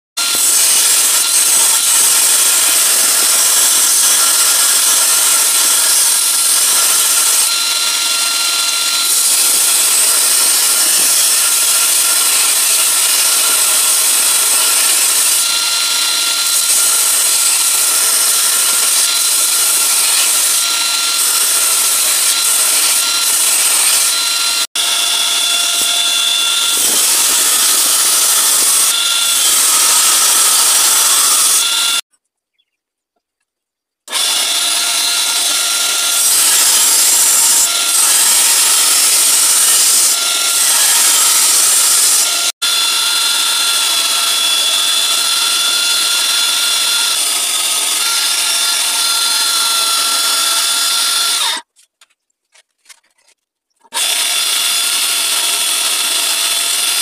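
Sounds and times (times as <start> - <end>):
belt grinder grinding steel blade: 0.2 - 32.0, 34.1 - 51.7, 53.9 - 57.0.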